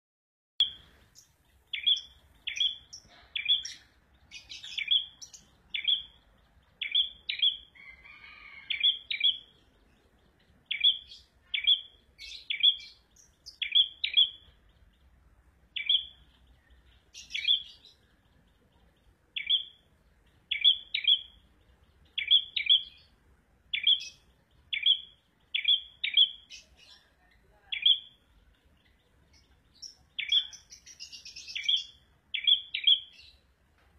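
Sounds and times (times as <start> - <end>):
songbird chirping: 0.6 - 33.9.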